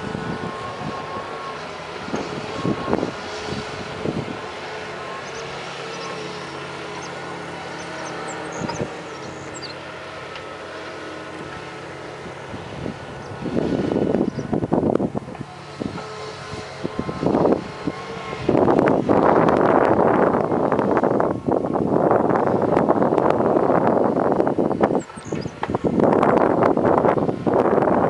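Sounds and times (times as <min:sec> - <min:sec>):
excavator diesel engine running: 0:00.0 - 0:27.5
hydraulic whine: 0:00.0 - 0:28.0.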